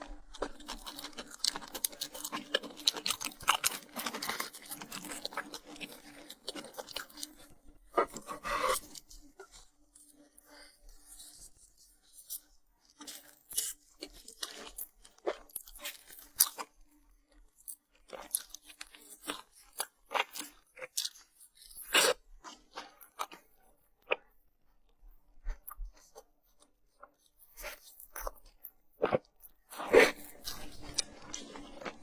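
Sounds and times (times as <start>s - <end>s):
crunching and chewing crisp food: 0.0s - 32.0s.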